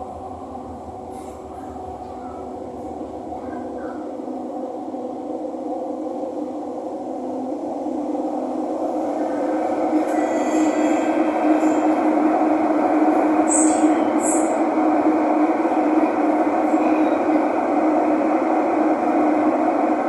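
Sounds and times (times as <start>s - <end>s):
metro train rumbling in tunnel: 0.0s - 20.0s.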